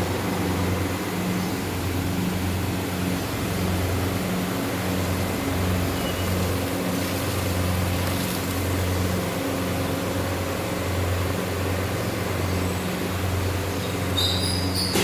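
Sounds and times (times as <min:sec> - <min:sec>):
mechanical background noise: 0:00.0 - 0:15.0.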